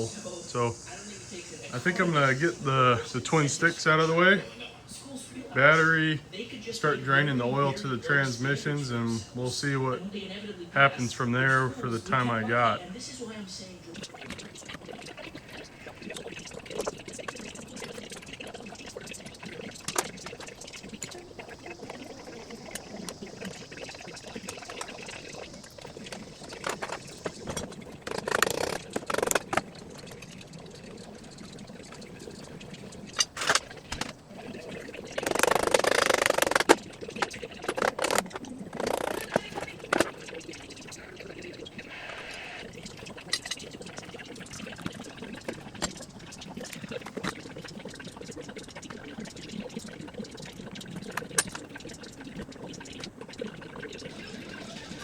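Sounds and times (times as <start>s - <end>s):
oil pouring into a drain pan: 0.0s - 4.5s, 5.5s - 10.0s, 10.8s - 55.0s.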